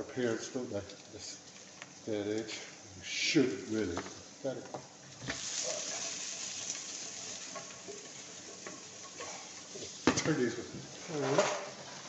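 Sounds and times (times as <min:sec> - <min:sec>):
food sizzling in frying pan: 0:01.0 - 0:12.0.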